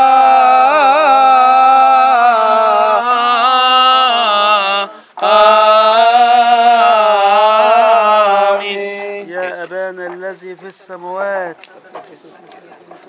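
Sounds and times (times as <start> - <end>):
man chanting: 0.0 - 11.9.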